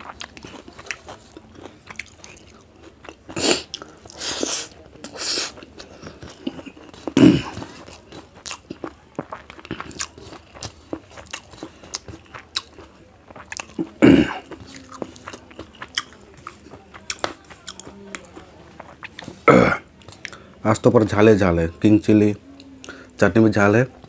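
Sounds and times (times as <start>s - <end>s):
person chewing: 0.0s - 20.6s.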